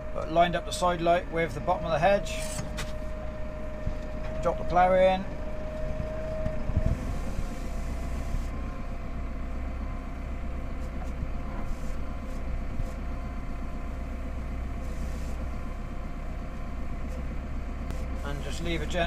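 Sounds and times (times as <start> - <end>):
steady whine: 0.0 - 19.0
tractor engine running: 0.0 - 19.0.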